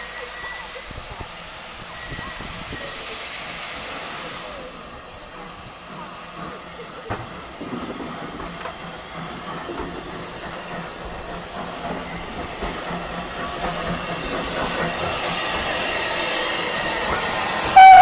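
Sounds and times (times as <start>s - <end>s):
steam hissing: 0.0s - 18.0s
train wheels on rails: 0.0s - 18.0s.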